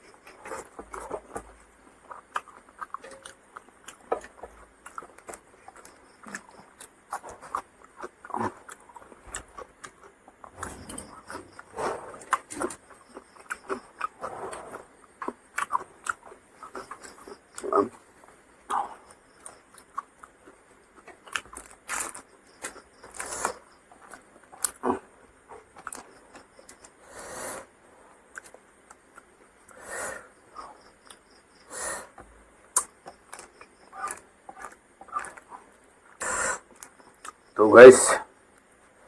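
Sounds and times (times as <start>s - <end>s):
person chewing: 0.0s - 27.0s, 28.3s - 29.8s, 32.7s - 37.5s.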